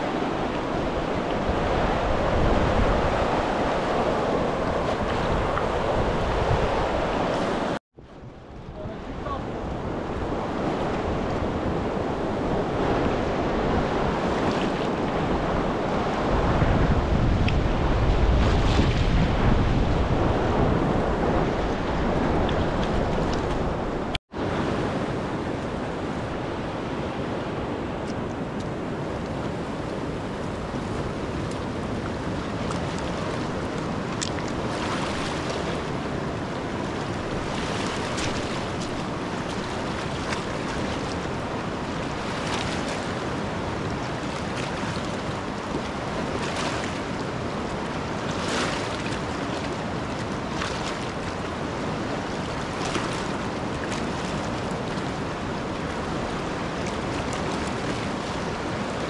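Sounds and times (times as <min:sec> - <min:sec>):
water rushing: 0:00.0 - 0:07.8, 0:08.8 - 0:59.0
wind: 0:00.0 - 0:59.0.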